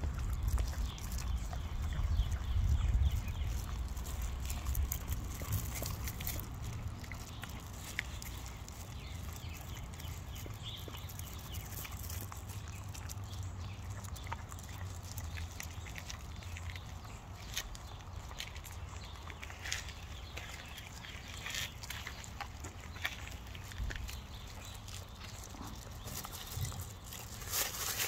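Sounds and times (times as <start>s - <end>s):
dog licking: 0.0s - 27.4s.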